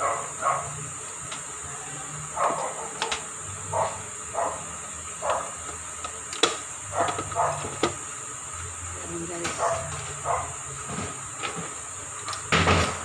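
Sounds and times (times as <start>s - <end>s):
air fryer fan hum and hiss: 0.0s - 13.0s.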